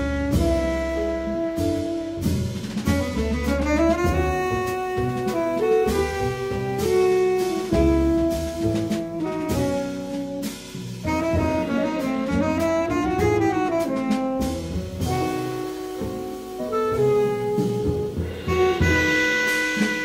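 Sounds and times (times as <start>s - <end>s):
double bass: 0.0s - 20.0s
drums: 0.0s - 20.0s
saxophone melody: 0.0s - 20.0s.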